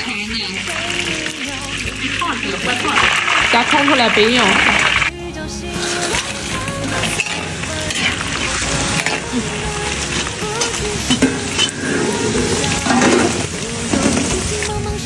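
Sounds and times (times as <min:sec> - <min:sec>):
meat frying in oil: 0:00.0 - 0:05.1, 0:05.8 - 0:14.8.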